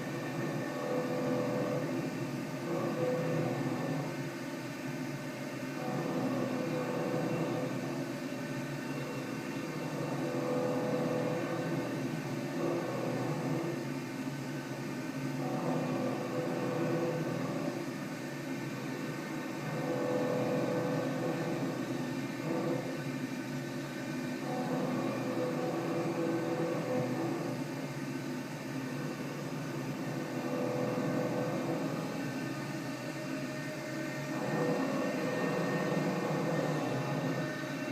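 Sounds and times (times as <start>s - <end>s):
milling machine whirring: 0.0s - 37.9s.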